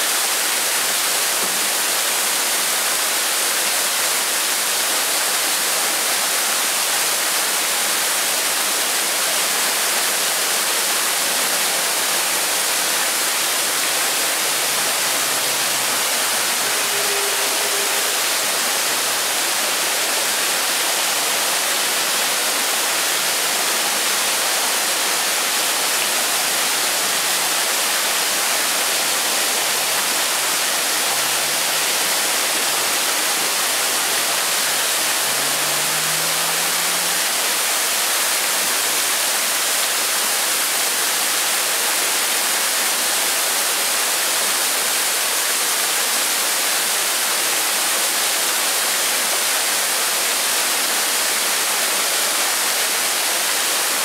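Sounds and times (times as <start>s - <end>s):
waterfall rushing into pool: 0.0s - 54.0s.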